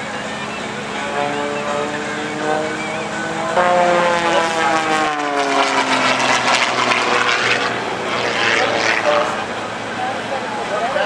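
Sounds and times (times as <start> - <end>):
propeller plane engine: 0.0 - 11.0
rough rushing sound: 1.0 - 10.0.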